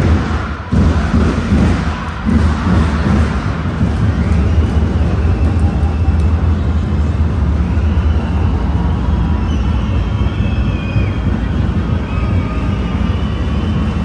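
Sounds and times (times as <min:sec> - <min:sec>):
arena crowd noise: 0:00.0 - 0:14.0.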